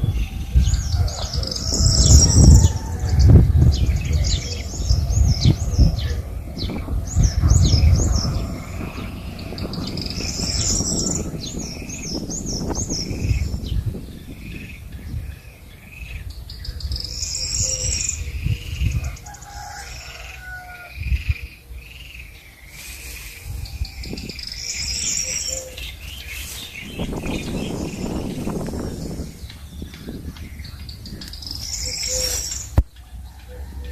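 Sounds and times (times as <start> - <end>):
low rumbling noise: 0.0 - 33.9
small birds chirping: 0.0 - 33.9.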